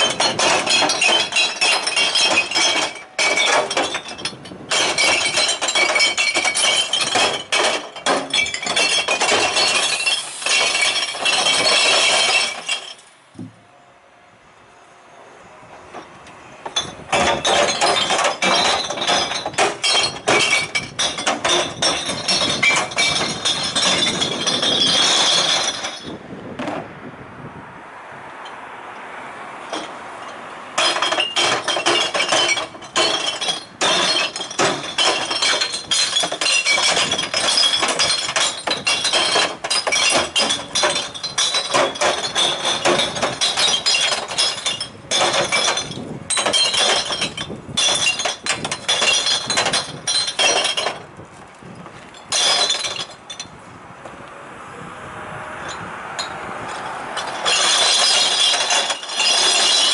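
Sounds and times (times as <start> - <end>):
glass bottles clinking and breaking: 0.0 - 13.2, 16.6 - 26.7, 29.7 - 53.6, 55.6 - 59.9.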